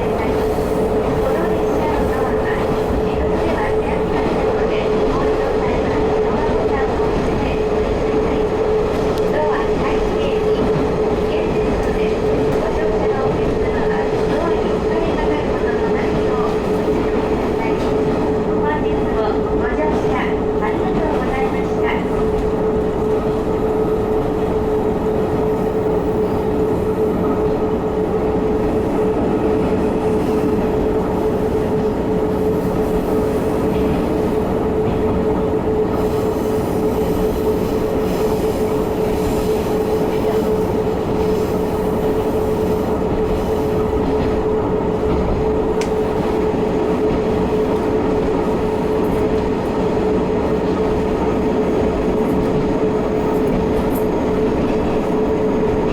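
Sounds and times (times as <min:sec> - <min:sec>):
diesel railcar engine and wheels: 0:00.0 - 0:55.9.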